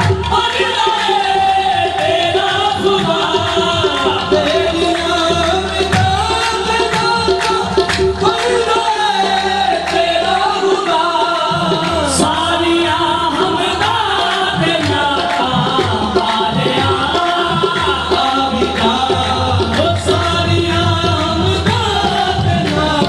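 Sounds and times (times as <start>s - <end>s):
hand drum beats: 0.0s - 23.0s.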